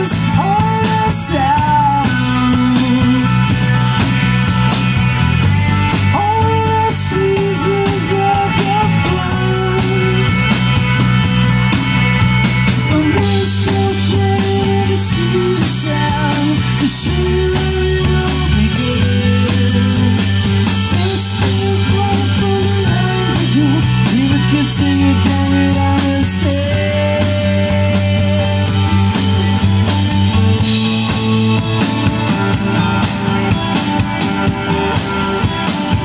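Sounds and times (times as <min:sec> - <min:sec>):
drum kit: 0:00.0 - 0:36.0
electric bass: 0:00.0 - 0:36.0
electric guitar: 0:00.0 - 0:36.0
keyboard: 0:00.0 - 0:36.0.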